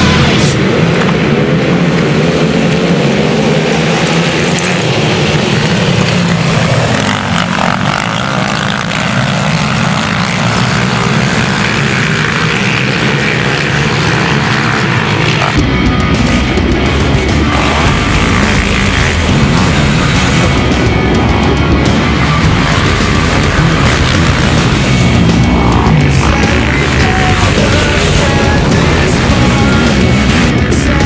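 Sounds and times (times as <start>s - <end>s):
quad engines revving: 0.0s - 31.0s.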